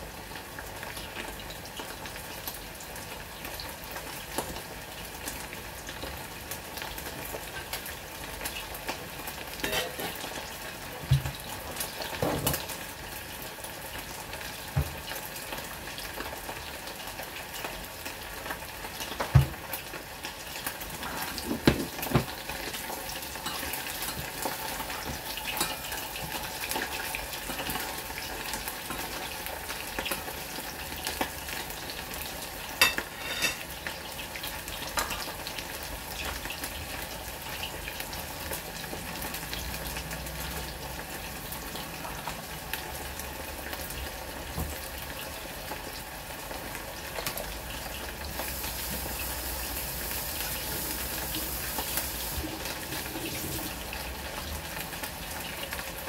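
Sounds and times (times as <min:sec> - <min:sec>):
ribs sizzling in oil: 0:00.0 - 0:56.0.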